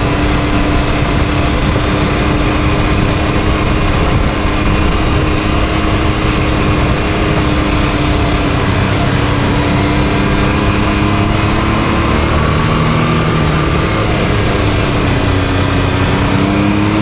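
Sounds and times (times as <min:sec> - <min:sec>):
off-road vehicle engine driving: 0:00.0 - 0:17.0.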